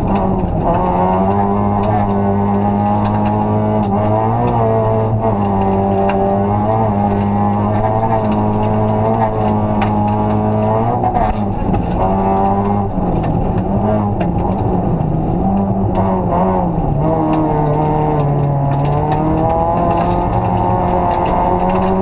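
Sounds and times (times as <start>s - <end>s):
rally car engine revving: 0.0s - 22.0s
sharp ticks and knocks: 0.0s - 22.0s.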